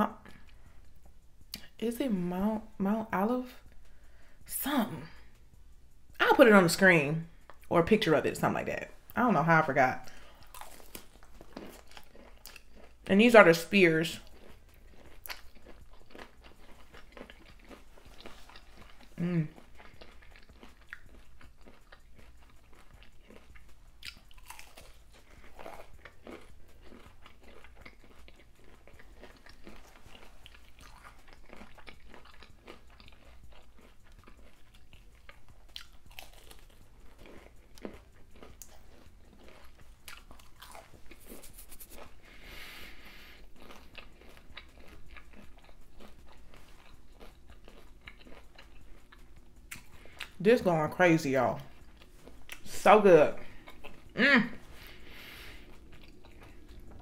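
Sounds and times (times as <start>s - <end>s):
crunching and chewing food: 0.0s - 57.0s.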